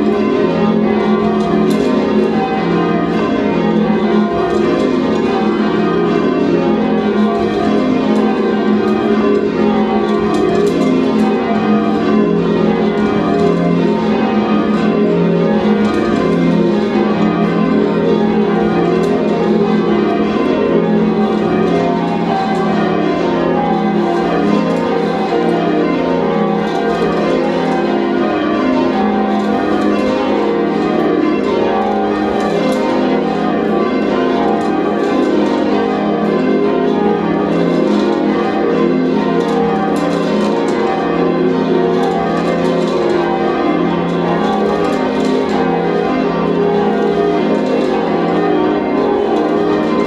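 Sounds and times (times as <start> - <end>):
church bells ringing: 0.0 - 50.0.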